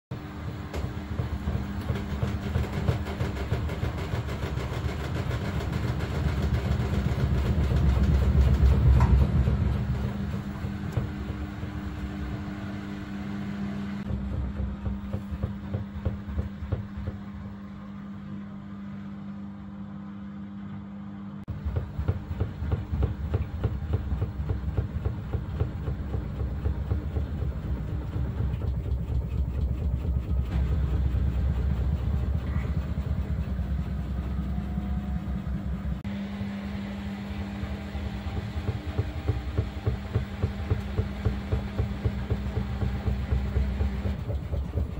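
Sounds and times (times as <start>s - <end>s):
washing machine spinning: 0.1s - 44.9s.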